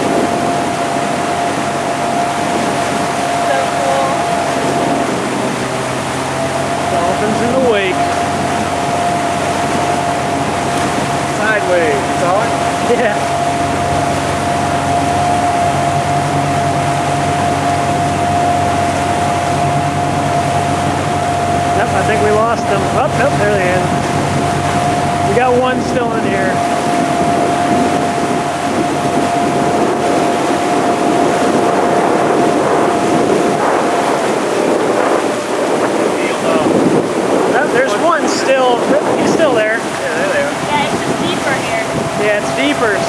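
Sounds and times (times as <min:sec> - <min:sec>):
motorboat engine hum: 0:00.0 - 0:43.0
wind and water rushing: 0:00.0 - 0:43.0.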